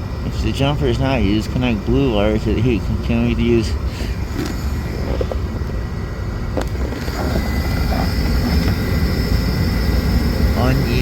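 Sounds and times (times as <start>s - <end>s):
hvac blower rumble: 0.0s - 11.0s.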